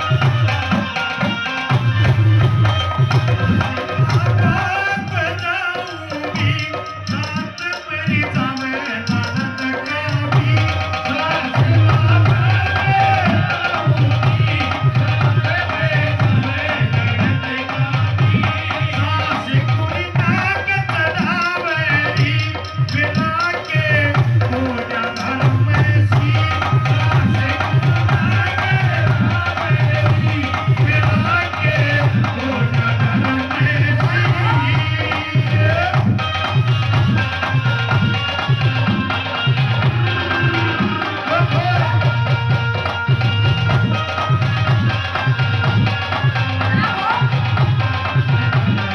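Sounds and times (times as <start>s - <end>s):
folk-pop song over sound system: 0.0s - 48.9s
heavy drum beat: 0.0s - 48.9s.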